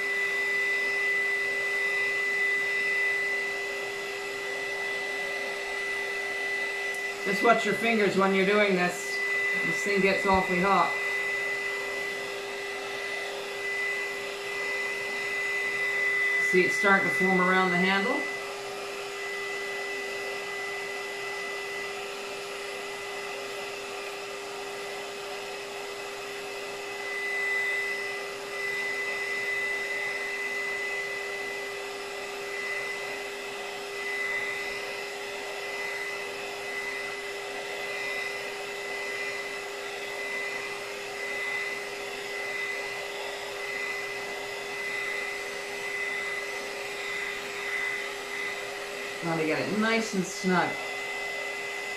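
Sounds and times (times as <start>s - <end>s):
heat gun fan blowing: 0.0s - 51.9s.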